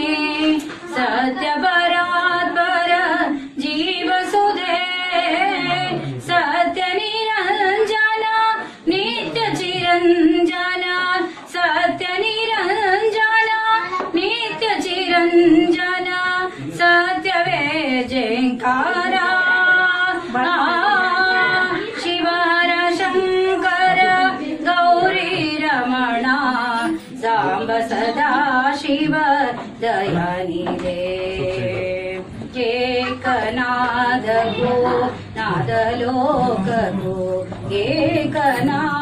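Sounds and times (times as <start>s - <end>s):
woman singing devotional song: 0.0s - 39.0s.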